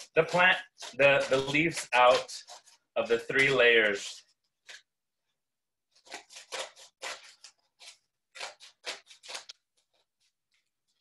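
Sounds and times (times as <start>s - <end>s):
scissors snipping paper: 0.0s - 4.9s, 5.9s - 11.0s.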